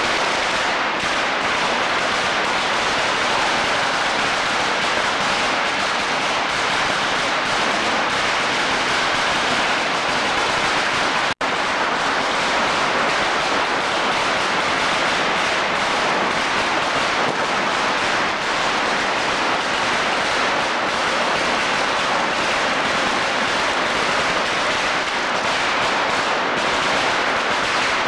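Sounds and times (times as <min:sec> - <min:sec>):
firecrackers crackling: 0:00.0 - 0:28.0.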